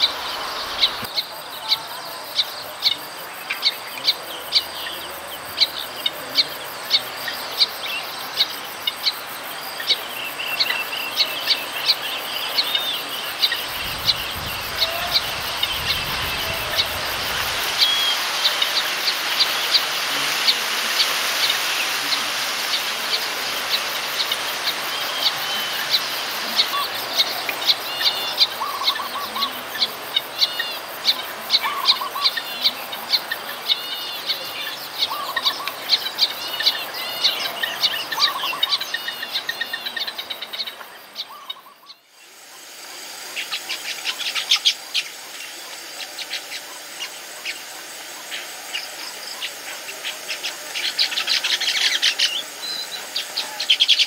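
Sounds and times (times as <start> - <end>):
insect hiss: 0.0 - 54.0
weaver birds chipping: 0.0 - 54.0.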